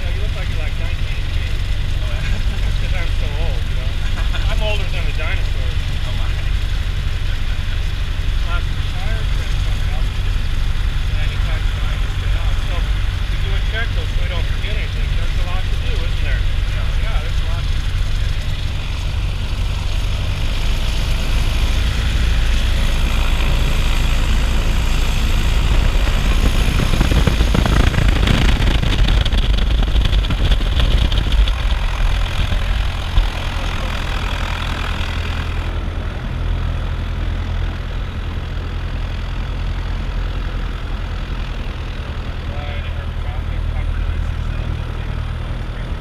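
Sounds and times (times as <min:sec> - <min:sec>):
piston engine and propeller running: 0:00.0 - 0:46.0.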